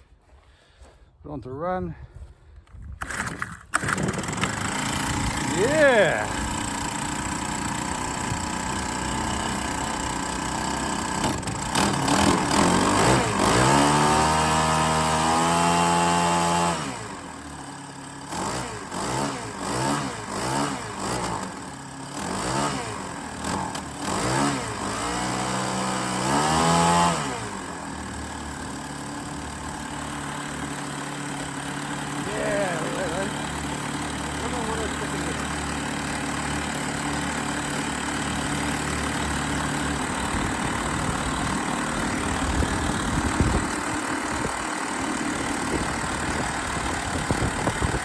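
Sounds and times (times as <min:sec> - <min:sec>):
small petrol engine revving: 0:03.0 - 0:48.0.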